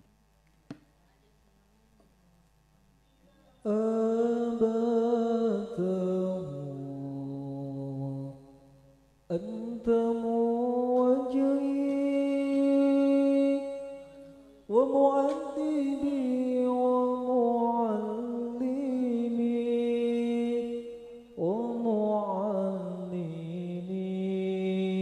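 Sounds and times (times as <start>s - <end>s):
man singing unaccompanied: 3.6s - 25.0s.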